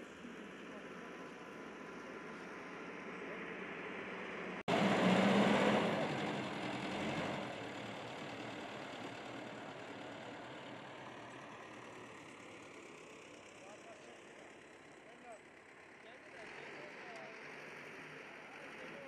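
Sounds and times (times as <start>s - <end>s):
backhoe diesel engine running: 0.0s - 19.0s.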